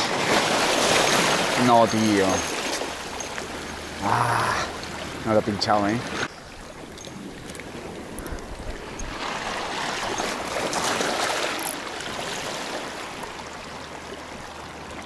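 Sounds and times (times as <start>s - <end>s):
sea waves washing against rocks: 0.0s - 14.9s.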